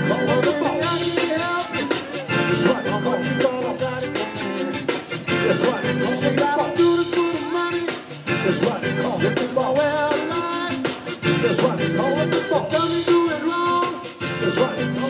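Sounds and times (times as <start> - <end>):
accordion: 0.0 - 15.0
live band playing: 0.0 - 15.0.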